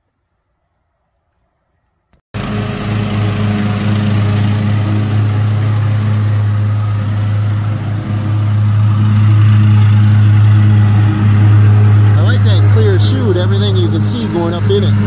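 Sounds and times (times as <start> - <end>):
cutting deck whirring: 2.4 - 15.0
lawn tractor engine hum: 2.4 - 15.0.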